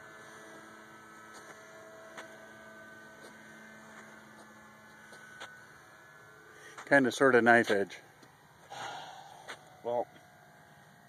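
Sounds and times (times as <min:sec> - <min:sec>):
rc airplane motor hum: 0:00.0 - 0:11.0.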